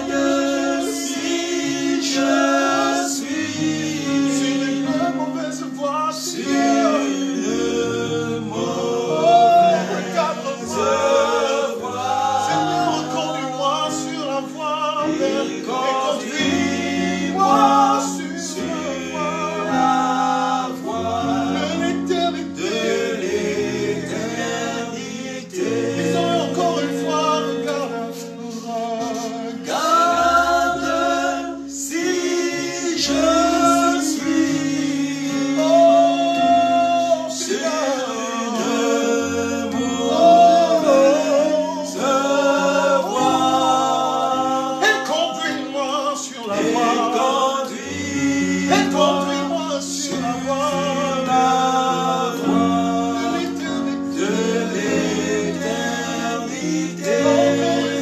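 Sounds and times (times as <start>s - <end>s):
group singing gospel song: 0.0s - 58.0s
instrumental accompaniment: 0.0s - 58.0s.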